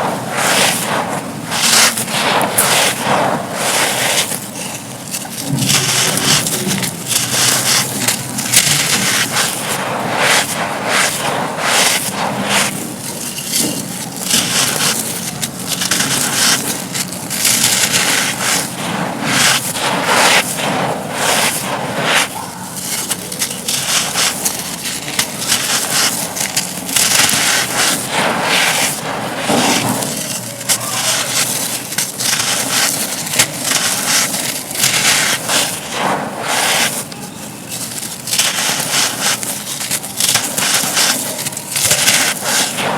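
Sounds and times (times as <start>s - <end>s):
chalky cones crunching: 0.0s - 42.9s.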